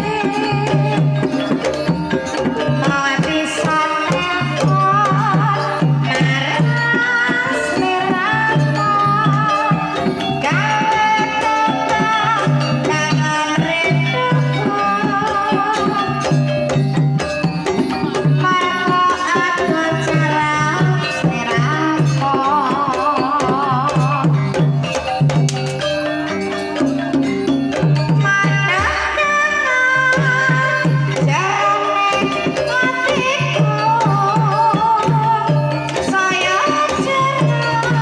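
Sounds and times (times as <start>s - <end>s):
woman singing: 0.0s - 16.8s, 17.5s - 25.2s, 28.0s - 38.0s
gamelan music: 0.0s - 38.0s
kendang drums beating: 0.0s - 38.0s.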